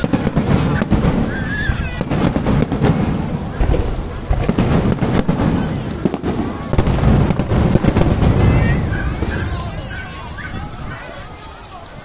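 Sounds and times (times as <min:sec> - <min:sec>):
deep rumble of booms: 0:00.0 - 0:11.2
fireworks sharp bangs: 0:00.0 - 0:11.6.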